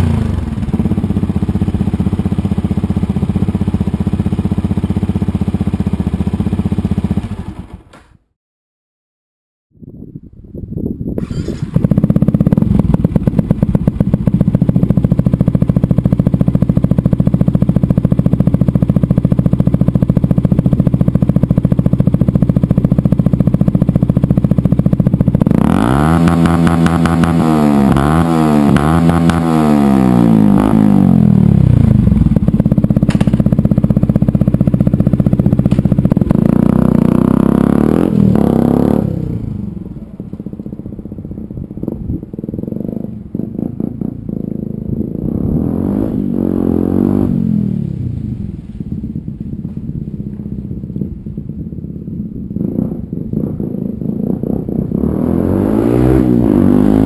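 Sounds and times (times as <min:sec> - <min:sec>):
motorcycle engine idling and revving: 0:00.0 - 0:08.4, 0:09.8 - 0:57.0.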